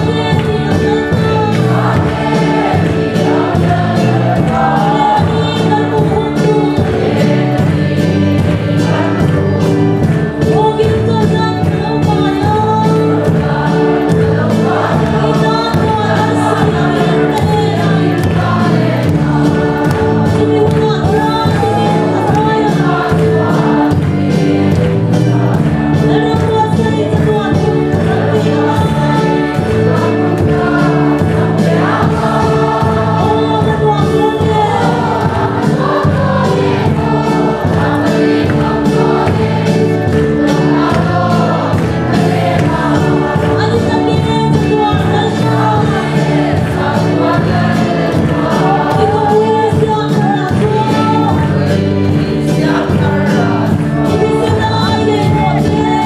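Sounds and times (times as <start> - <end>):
congregation singing a hymn: 0.0 - 56.0
steady beat: 0.0 - 56.0.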